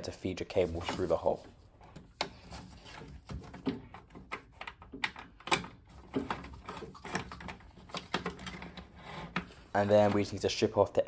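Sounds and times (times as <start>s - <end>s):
cable clicking and scraping: 0.7s - 10.5s.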